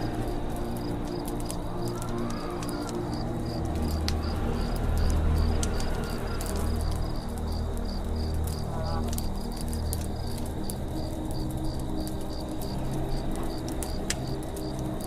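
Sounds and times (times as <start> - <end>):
campfire crackling and popping: 0.0 - 15.0
cricket chirping: 0.6 - 15.0.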